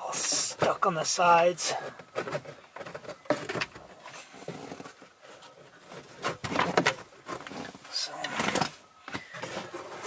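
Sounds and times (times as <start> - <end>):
air filter scraping in plastic housing: 1.7 - 10.0.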